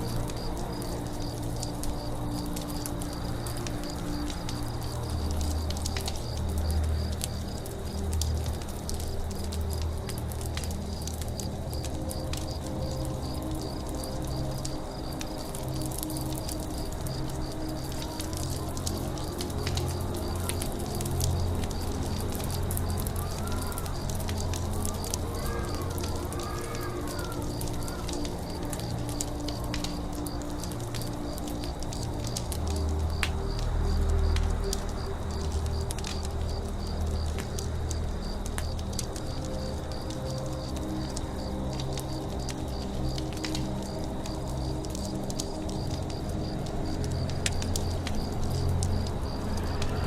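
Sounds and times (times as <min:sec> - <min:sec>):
campfire crackling and popping: 0:00.0 - 0:50.0
crickets chirping: 0:00.0 - 0:50.0.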